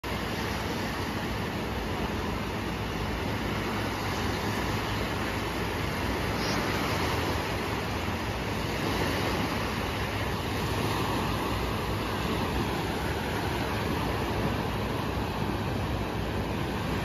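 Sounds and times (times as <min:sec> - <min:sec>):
small waves breaking on beach: 0:00.0 - 0:17.0.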